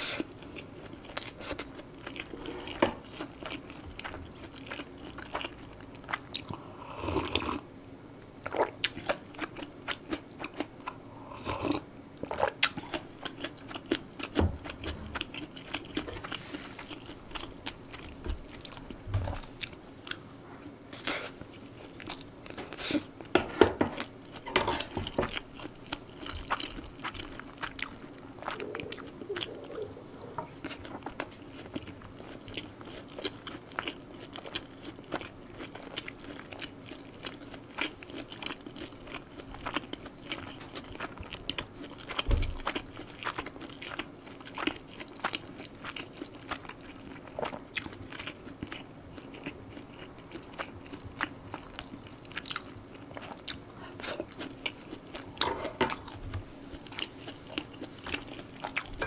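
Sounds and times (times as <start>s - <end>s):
person chewing crunchy food: 0.0s - 7.6s, 8.4s - 23.3s, 24.0s - 59.0s.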